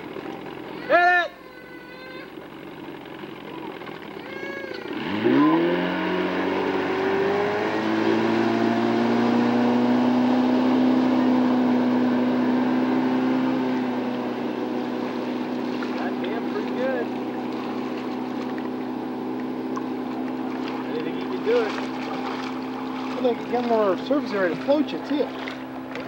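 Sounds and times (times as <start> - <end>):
motorboat engine revving: 0.0 - 26.0.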